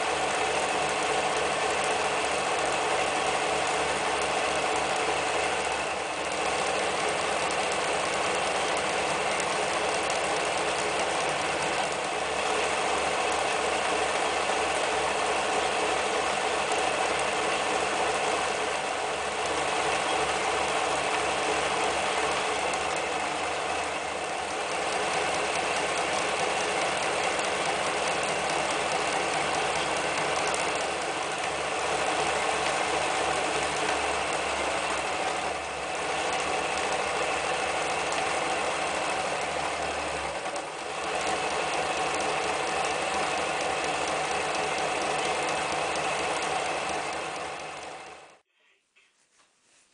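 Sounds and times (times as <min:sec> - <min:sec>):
sewing machine clattering: 0:00.0 - 0:48.4.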